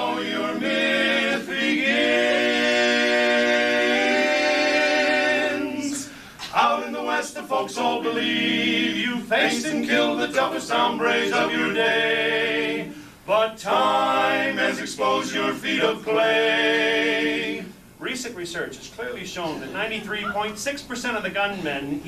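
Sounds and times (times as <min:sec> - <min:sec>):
men singing in close harmony: 0:00.0 - 0:17.7.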